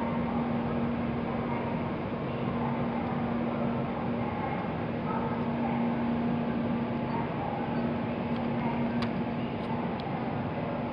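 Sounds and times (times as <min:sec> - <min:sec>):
train running with low hum: 0:00.0 - 0:10.9.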